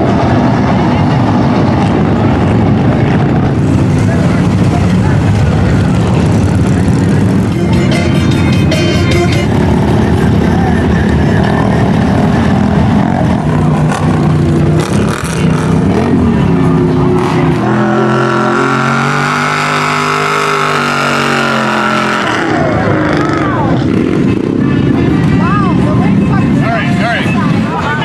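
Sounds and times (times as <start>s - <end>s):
truck engine revving hard: 0.0s - 28.0s.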